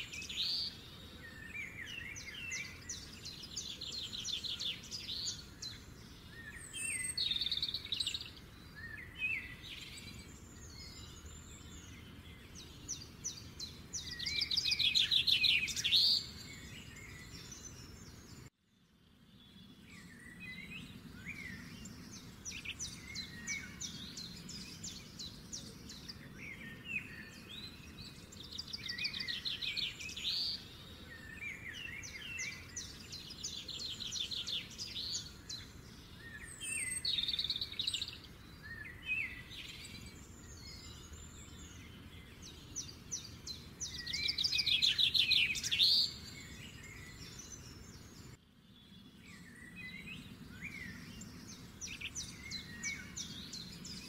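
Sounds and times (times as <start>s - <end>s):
low steady hiss: 0.0s - 54.0s
songbirds chirping and singing: 0.0s - 54.0s.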